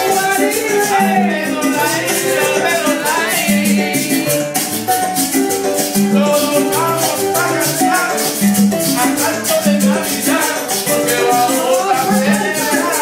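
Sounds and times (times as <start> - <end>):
latin dance music: 0.0 - 13.0
shaker rhythm: 0.0 - 13.0.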